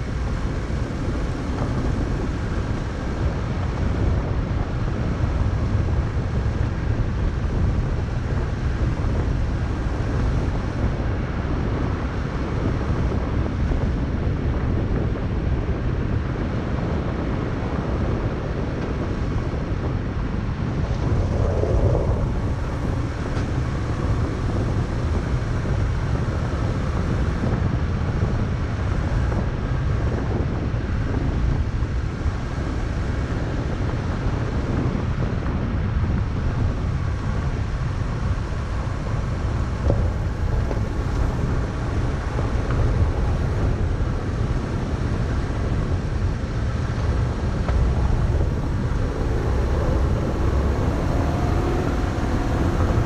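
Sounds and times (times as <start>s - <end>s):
tyres and engine rumbling: 0.0s - 27.5s, 32.0s - 53.0s
wind buffeting microphone: 0.0s - 53.0s.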